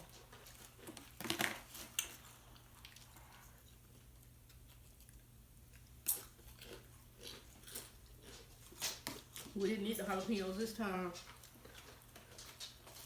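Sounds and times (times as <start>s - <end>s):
chewing crunchy chips: 0.0s - 10.3s, 11.1s - 13.0s.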